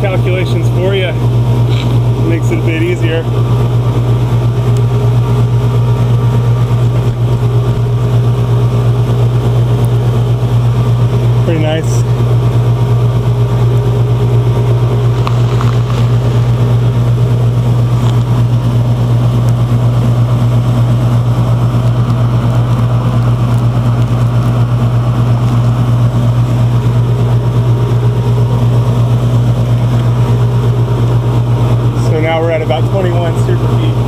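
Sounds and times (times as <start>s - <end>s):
air conditioner unit humming: 0.0s - 34.0s.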